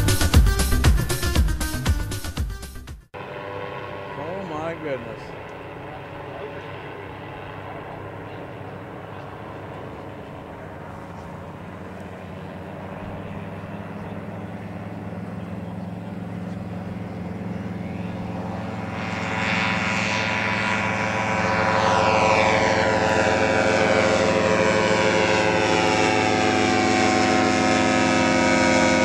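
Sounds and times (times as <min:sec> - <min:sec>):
ultralight aircraft engine and propeller: 0:00.0 - 0:02.3, 0:03.2 - 0:29.0.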